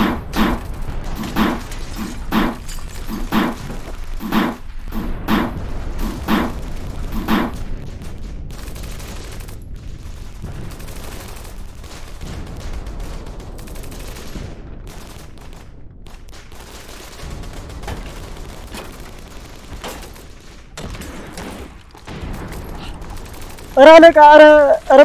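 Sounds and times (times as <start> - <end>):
rapid rifle gunfire: 0.0 - 25.0.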